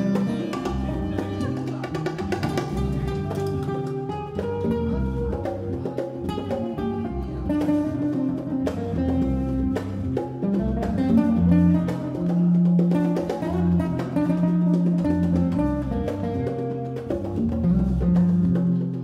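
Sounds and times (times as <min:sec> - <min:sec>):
acoustic guitar plucking: 0:00.0 - 0:19.0
bass: 0:00.0 - 0:19.0
hand drums: 0:00.0 - 0:19.0.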